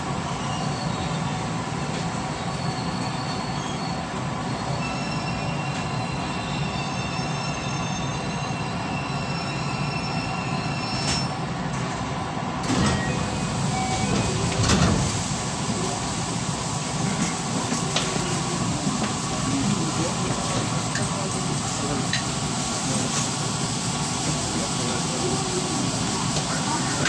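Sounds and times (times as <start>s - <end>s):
electric train rumble: 0.0s - 27.0s.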